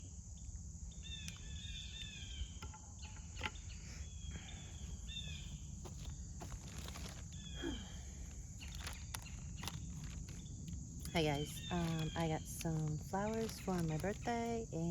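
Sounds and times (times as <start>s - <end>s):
high insect drone: 0.0s - 14.9s
birds chirping and warbling: 0.3s - 14.9s.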